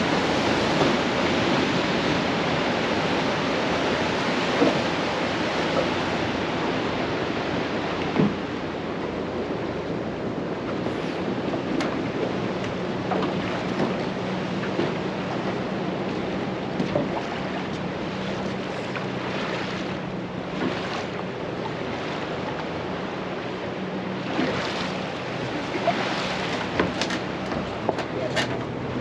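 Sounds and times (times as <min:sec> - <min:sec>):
boat motor running: 0:00.0 - 0:29.0
waves washing and splashing: 0:00.0 - 0:29.0.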